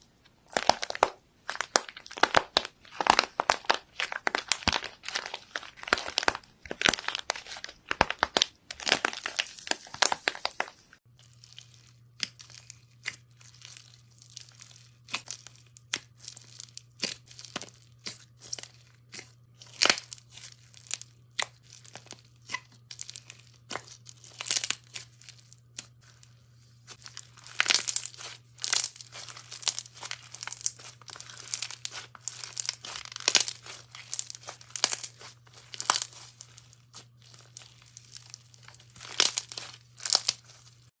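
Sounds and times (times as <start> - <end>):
slime crackling and popping: 0.5 - 26.3, 26.9 - 40.9.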